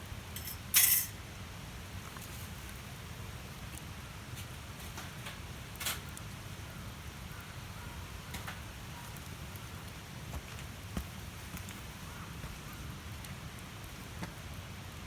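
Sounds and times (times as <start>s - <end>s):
low rumble of fire: 0.0s - 15.0s
campfire crackling and popping: 0.1s - 15.0s.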